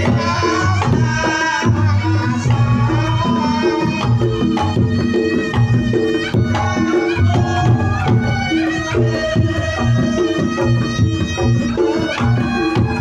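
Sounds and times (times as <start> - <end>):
hand drums: 0.0 - 13.0.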